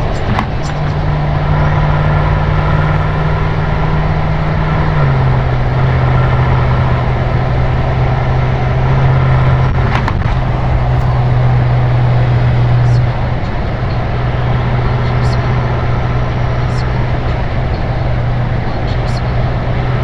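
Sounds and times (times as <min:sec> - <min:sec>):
car engine cruising: 0:00.0 - 0:20.0
tyre and road noise: 0:00.0 - 0:20.0.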